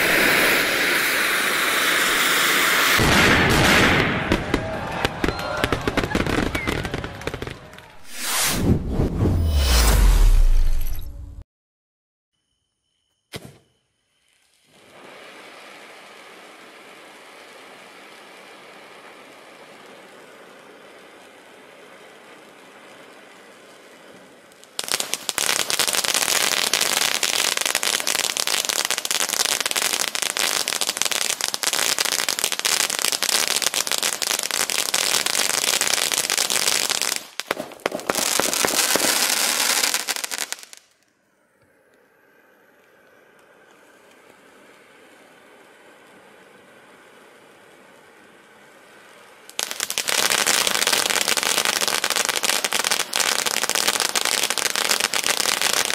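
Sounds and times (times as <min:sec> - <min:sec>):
firework fountain hissing: 0:00.0 - 0:08.8, 0:14.2 - 0:55.9
firework rapid crackling: 0:00.0 - 0:11.0, 0:14.3 - 0:41.0, 0:46.4 - 0:55.9.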